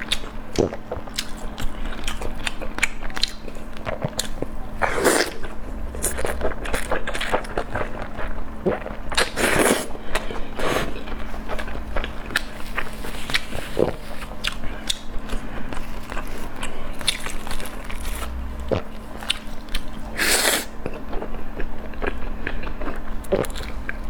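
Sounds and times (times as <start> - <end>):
chewing and crunching: 0.0 - 24.0.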